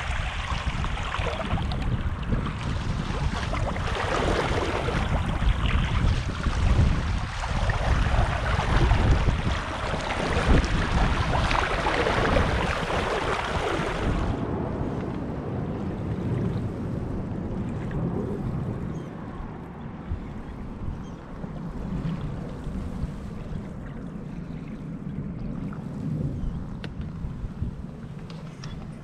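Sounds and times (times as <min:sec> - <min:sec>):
water splashing along a hull: 0:00.0 - 0:29.0
wind buffeting microphone: 0:00.0 - 0:29.0.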